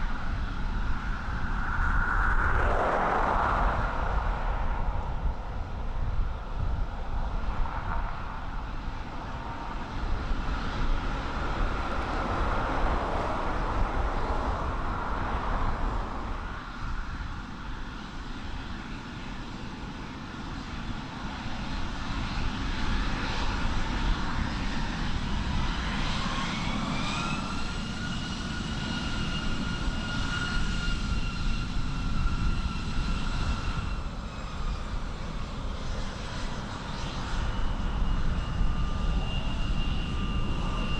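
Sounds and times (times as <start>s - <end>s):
airliner engines running: 0.0s - 40.9s
engine whine: 0.0s - 40.9s
wind noise on microphone: 0.0s - 40.9s.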